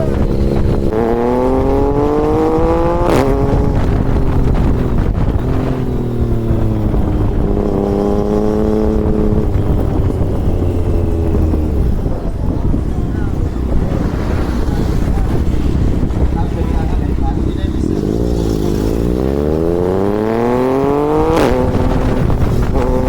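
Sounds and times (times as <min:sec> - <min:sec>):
motorcycle engine revving: 0:00.0 - 0:23.0
steady low rumble: 0:00.0 - 0:23.0.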